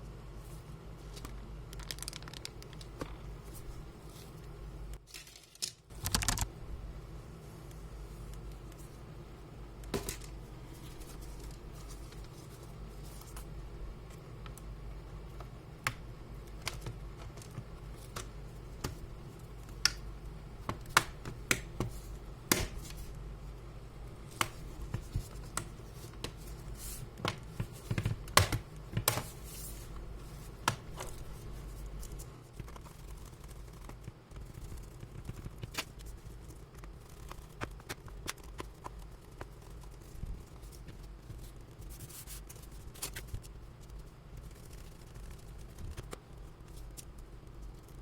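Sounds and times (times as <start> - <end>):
steady low hum: 0.0 - 5.1, 5.8 - 48.0.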